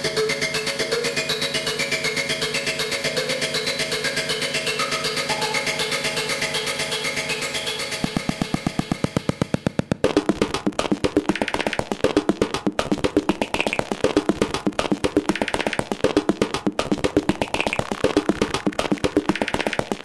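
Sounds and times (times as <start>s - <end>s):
background music with quick beat: 0.0s - 20.0s.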